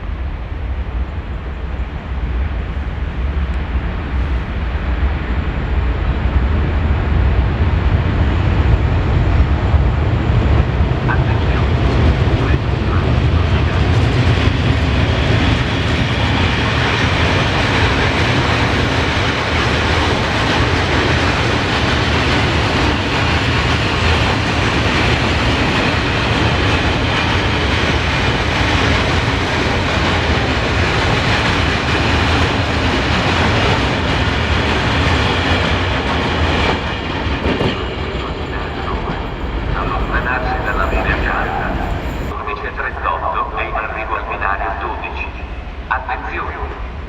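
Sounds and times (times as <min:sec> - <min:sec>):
freight train rumbling and rattling: 0:00.0 - 0:47.0.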